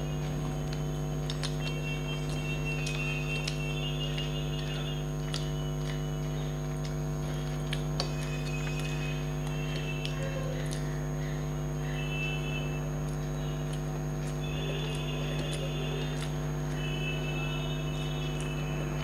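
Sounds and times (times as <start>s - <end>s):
chicken being chewed: 0.0s - 19.0s
low electrical hum: 0.0s - 19.0s.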